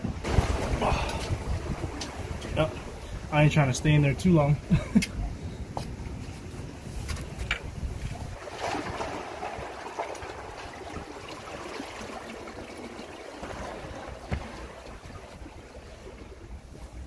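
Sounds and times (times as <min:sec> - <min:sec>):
seawater sloshing among rocks: 0:00.0 - 0:04.6, 0:05.6 - 0:17.0.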